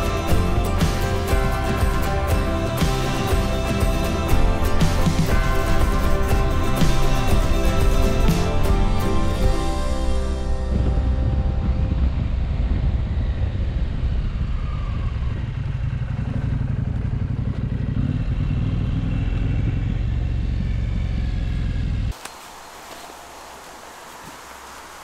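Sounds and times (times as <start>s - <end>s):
motorcycle engine: 0.0s - 22.1s
riding wind rumble: 0.0s - 25.0s
wind and rustling: 0.0s - 25.0s.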